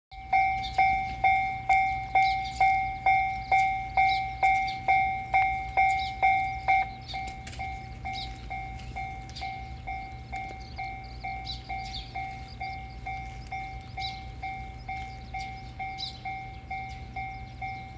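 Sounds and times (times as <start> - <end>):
level crossing warning bell: 0.1 - 17.9.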